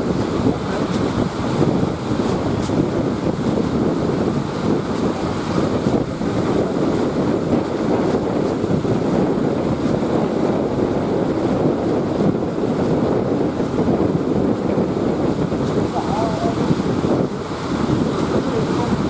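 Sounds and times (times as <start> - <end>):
choppy sea: 0.0 - 19.0
wind buffeting microphone: 0.0 - 19.0.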